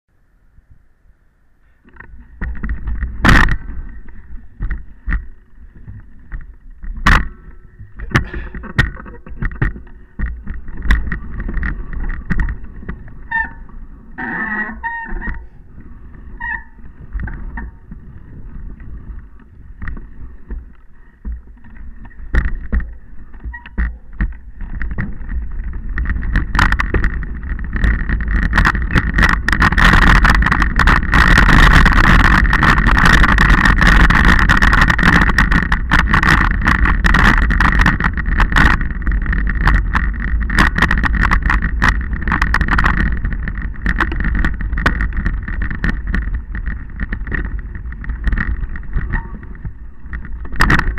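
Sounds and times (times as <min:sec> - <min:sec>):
rattles and knocks over rocks: 0:01.8 - 0:50.9
wind rushing over microphone: 0:01.8 - 0:50.9.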